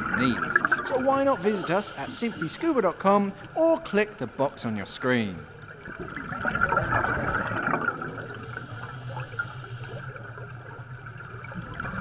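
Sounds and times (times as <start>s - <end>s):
underwater bubbling: 0.0s - 3.8s, 5.2s - 12.0s.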